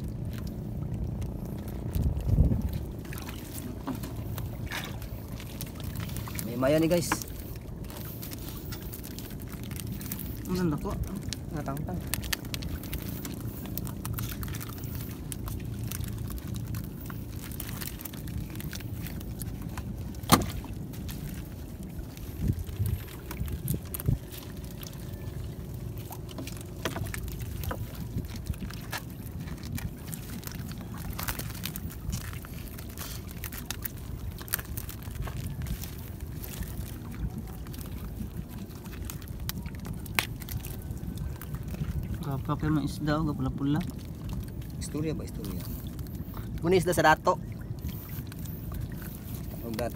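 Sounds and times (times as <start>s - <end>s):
low wash of water: 0.0s - 49.9s
wind rumbling on microphone: 0.0s - 49.9s.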